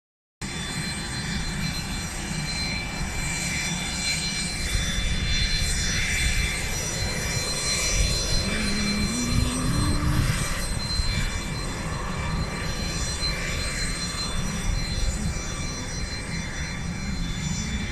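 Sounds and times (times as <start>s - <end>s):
jet engines running: 0.4s - 17.9s.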